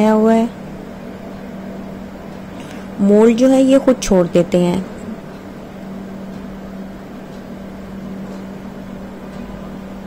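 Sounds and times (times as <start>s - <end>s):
low tone hum: 0.0s - 10.0s.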